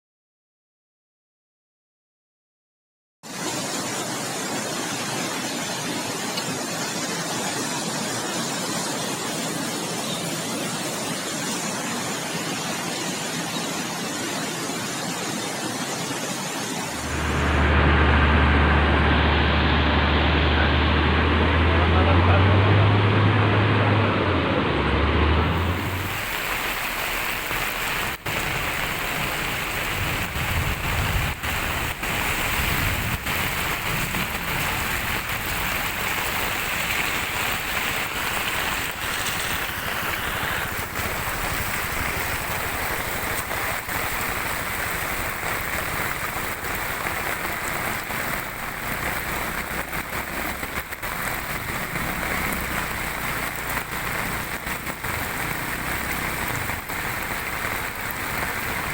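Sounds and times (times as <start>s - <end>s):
heavy rain pouring: 3.2s - 58.9s.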